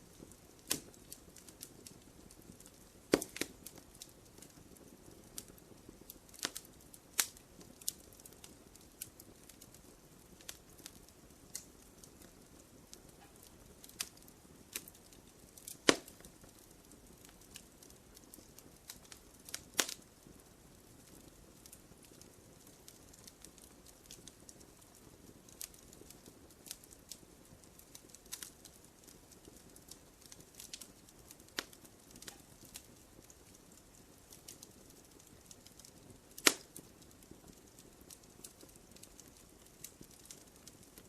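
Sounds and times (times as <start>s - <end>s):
soft steady hiss: 0.0s - 41.0s
wood fire crackling and popping: 0.0s - 41.0s.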